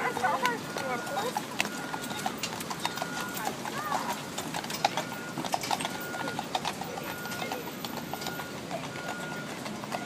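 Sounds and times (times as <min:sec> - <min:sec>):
horse hooves clopping on pavement: 0:00.0 - 0:10.0
street noise: 0:00.0 - 0:10.0.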